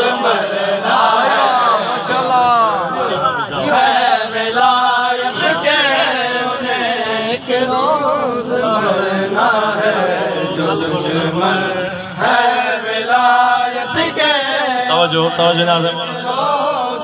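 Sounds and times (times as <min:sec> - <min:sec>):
men chanting a mourning lament: 0:00.0 - 0:17.0.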